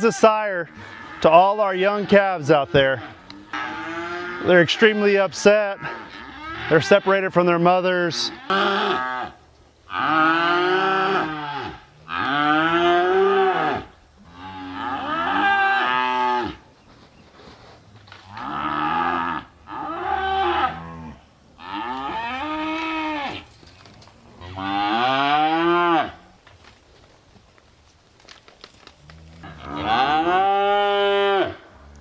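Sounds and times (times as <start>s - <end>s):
calves bellowing: 0.0s - 16.7s, 18.1s - 26.4s, 28.7s - 32.0s.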